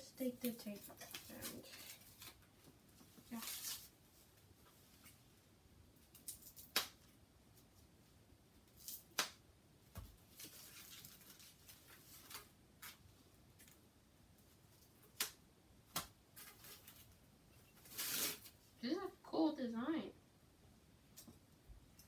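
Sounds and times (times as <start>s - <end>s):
light rustling of packaging: 0.0s - 19.0s.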